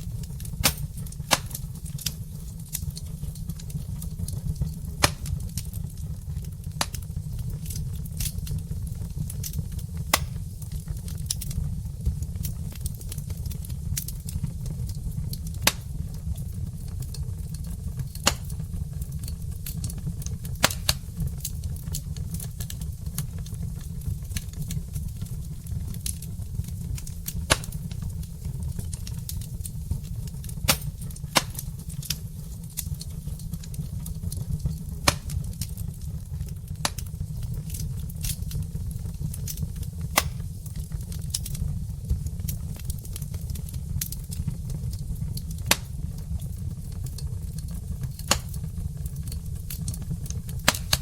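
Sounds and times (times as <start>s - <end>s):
logs crackling and popping: 0.0s - 51.0s
low fire rumble: 0.0s - 51.0s.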